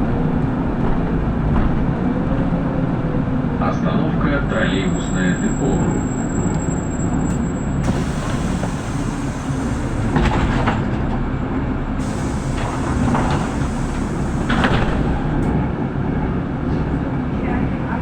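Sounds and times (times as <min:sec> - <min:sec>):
bus body rattling: 0:00.0 - 0:03.4, 0:05.4 - 0:18.0
bus engine and road rumble: 0:00.0 - 0:18.0.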